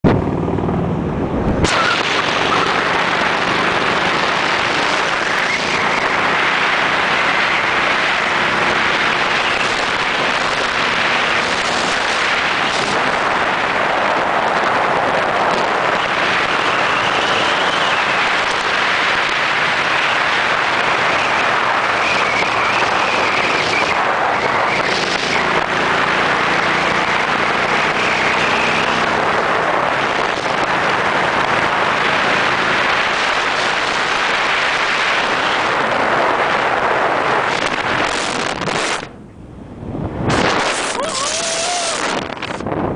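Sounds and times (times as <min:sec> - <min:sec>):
motorcycle engine cruising: 0:00.0 - 0:42.9
wind and road noise: 0:00.0 - 0:42.9.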